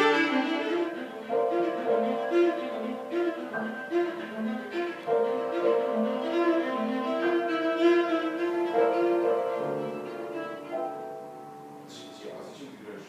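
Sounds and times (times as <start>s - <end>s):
bowed strings led by violin: 0.0s - 12.3s.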